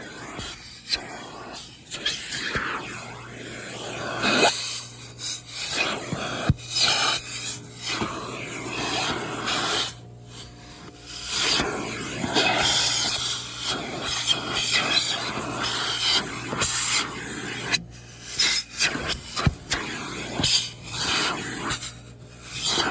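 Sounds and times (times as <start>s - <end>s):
vacuum hose sucking air: 0.0s - 22.9s.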